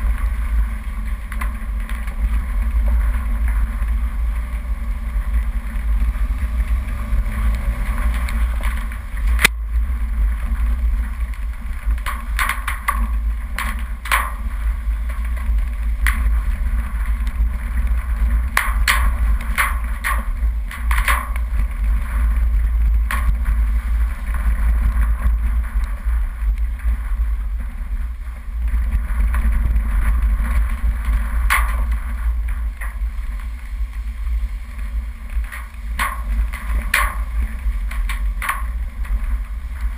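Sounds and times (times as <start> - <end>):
vehicle rumbling on dirt track: 0.0 - 39.9.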